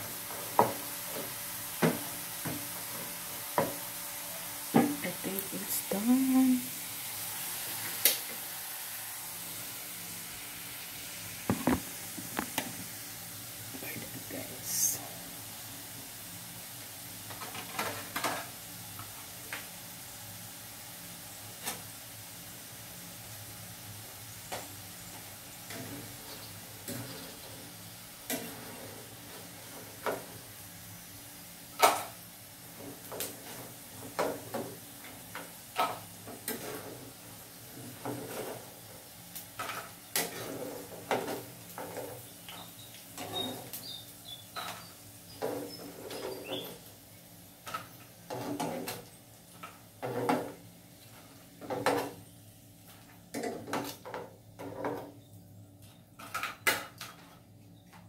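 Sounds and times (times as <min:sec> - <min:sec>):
frying sizzle: 0:00.0 - 0:58.0.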